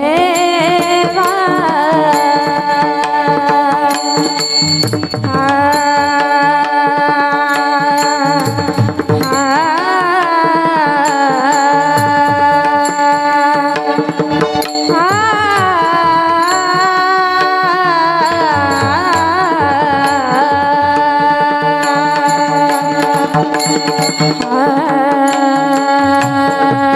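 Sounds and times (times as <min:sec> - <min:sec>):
girl singing devotional song: 0:00.0 - 0:26.9
sustained instrumental accompaniment: 0:00.0 - 0:26.9.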